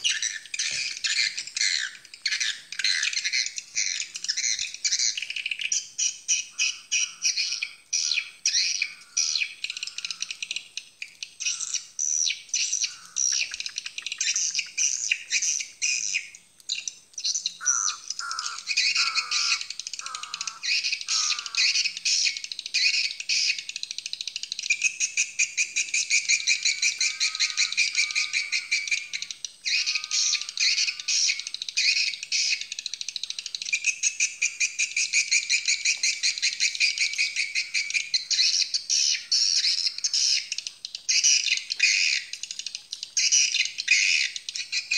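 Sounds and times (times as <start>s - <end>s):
birds twittering: 0.0s - 44.9s
downward-sweeping bird calls: 0.0s - 44.9s.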